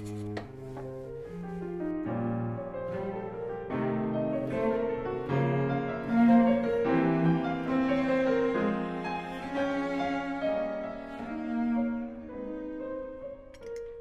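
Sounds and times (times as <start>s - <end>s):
piano: 0.0s - 14.0s
slow classical music: 0.0s - 14.0s.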